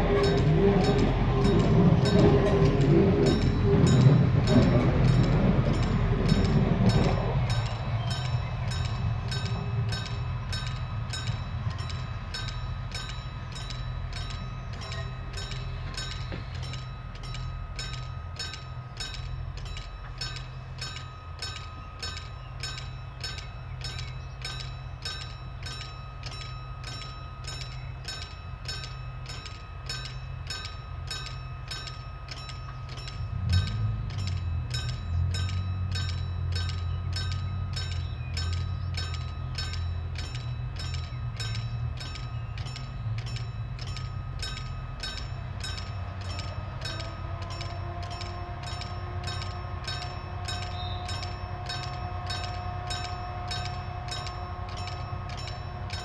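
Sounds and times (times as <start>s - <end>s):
diesel engines idling: 0.0s - 56.0s
diesel train rumbling: 0.0s - 56.0s
level-crossing bell ringing: 0.0s - 56.0s.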